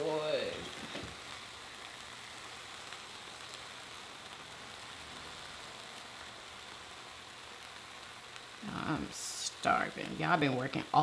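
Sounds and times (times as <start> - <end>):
faint crackles: 0.0 - 11.0
food sizzling on a grill: 0.0 - 11.0.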